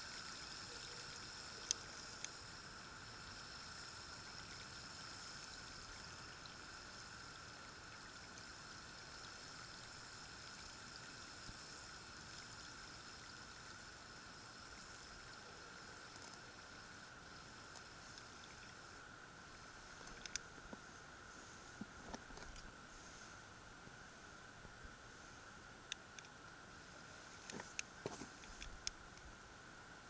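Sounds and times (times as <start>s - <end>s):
water-like hiss: 0.0s - 25.7s, 26.6s - 28.9s.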